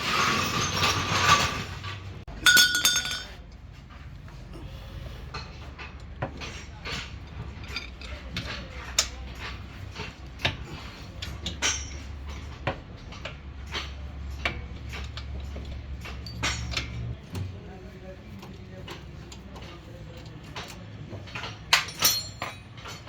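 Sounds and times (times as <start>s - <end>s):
metal tools clinking: 0.0s - 4.0s, 5.4s - 17.2s, 18.4s - 23.0s.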